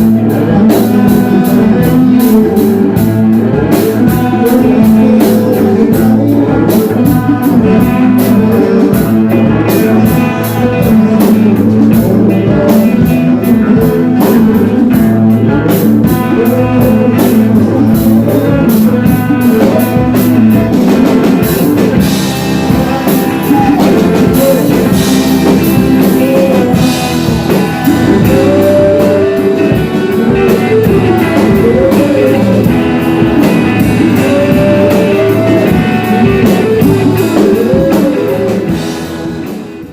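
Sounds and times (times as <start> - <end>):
loud rock music: 0.0 - 39.9.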